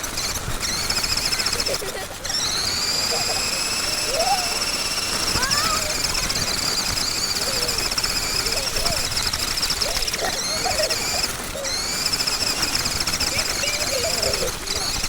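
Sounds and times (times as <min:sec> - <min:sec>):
high-pitched electric motor whine: 0:00.0 - 0:15.0.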